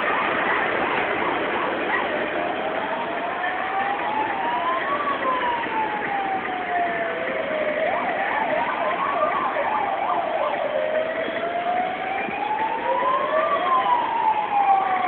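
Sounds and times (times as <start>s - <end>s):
fast warbling siren yelp: 0.0s - 15.0s
sirens wailing: 0.0s - 15.0s.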